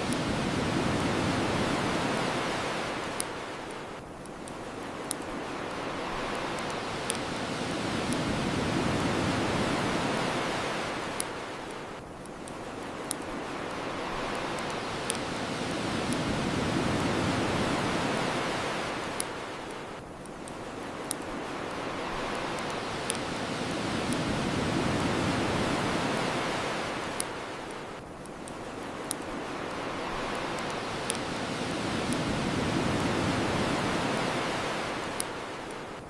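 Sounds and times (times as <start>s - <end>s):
bonfire crackling and popping: 0.0s - 36.0s
ocean waves washing onto shore: 0.0s - 36.0s.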